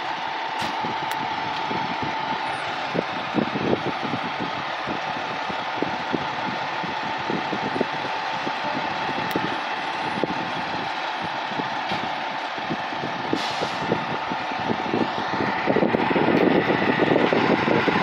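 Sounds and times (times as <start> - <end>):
diesel engines idling: 0.0 - 18.0.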